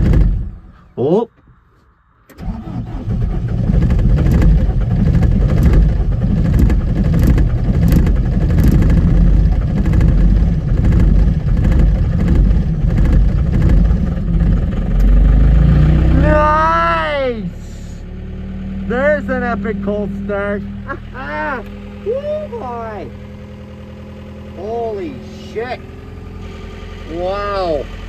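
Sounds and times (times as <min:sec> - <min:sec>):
diesel engine running unevenly: 0:00.0 - 0:00.8, 0:02.3 - 0:28.0.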